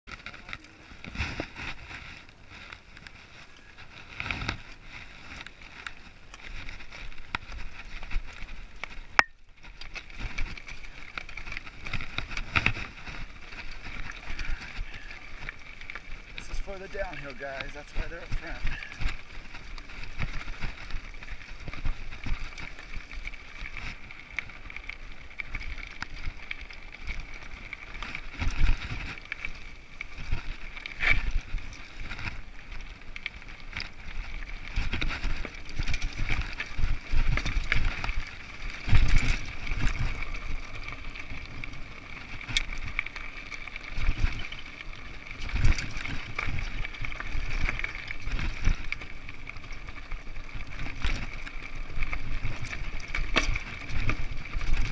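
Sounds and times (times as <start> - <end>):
bike rattling over stones: 0.1 - 54.9
bike jolting on rocks: 9.8 - 54.9.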